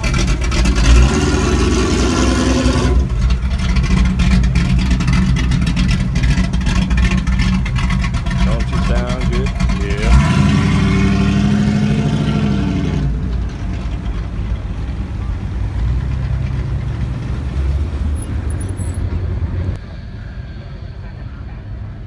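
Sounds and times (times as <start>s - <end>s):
car engine revving: 0.0s - 19.8s
car engine running at low speed: 0.0s - 20.0s.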